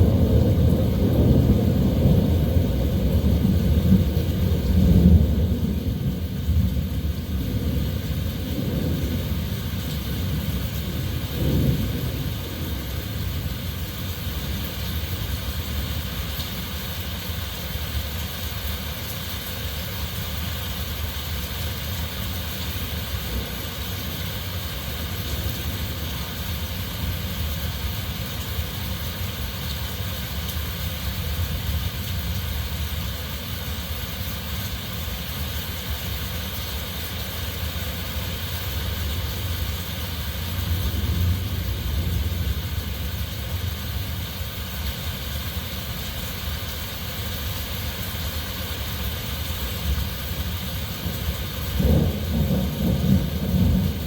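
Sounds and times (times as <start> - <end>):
heavy rain falling: 0.0 - 54.0
wind: 0.0 - 54.0.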